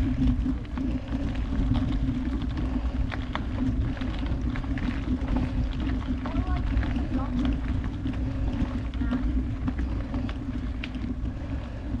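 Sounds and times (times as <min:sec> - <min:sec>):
bike clicks and rattles: 0:00.0 - 0:12.0
bike tyres rumbling on dirt: 0:00.0 - 0:12.0.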